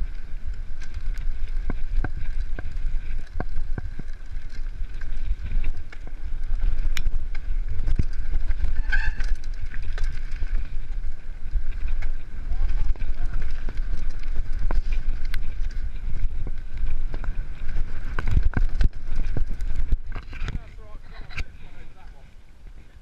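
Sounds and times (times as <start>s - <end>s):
bike rattling over bumps: 0.0s - 23.0s
wind rumble on microphone: 0.0s - 23.0s.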